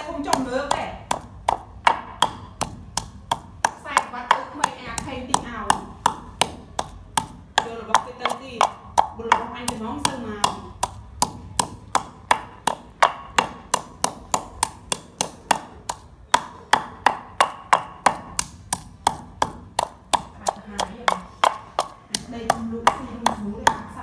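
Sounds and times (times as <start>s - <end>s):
pestle pounding in wooden mortar: 0.0s - 24.0s.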